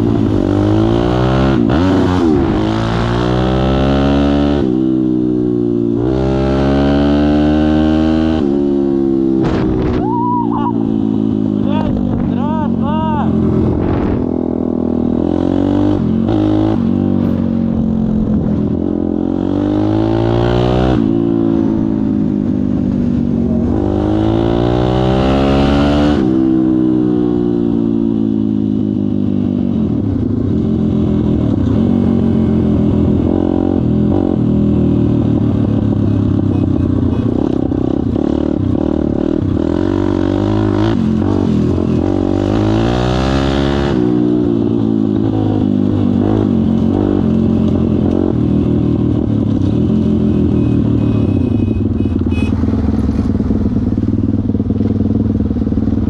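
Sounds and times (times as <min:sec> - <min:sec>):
motorbike engine revving: 0:00.0 - 0:29.2, 0:30.0 - 0:56.0.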